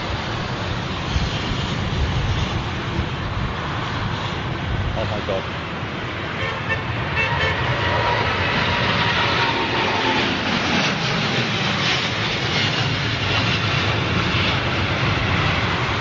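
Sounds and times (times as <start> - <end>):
airplane engines rushing: 0.0 - 16.0.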